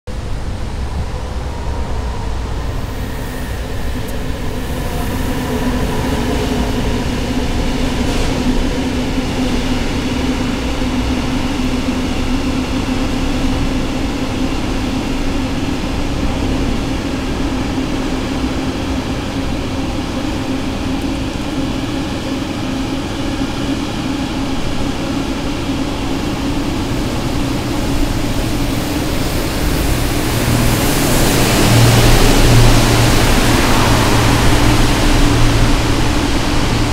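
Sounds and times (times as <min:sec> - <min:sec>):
freight train rolling past: 0:00.1 - 0:36.9.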